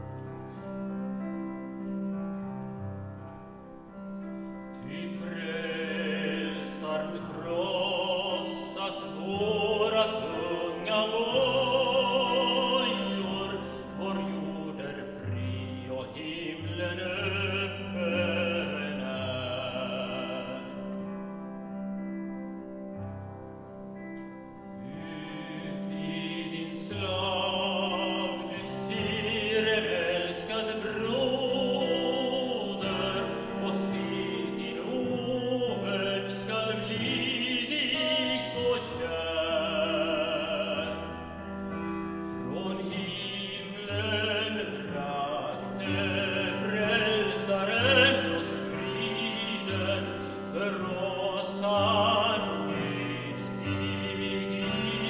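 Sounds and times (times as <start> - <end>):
keyboard accompaniment: 0.0 - 55.0
man singing with vibrato: 4.4 - 21.0, 24.8 - 55.0.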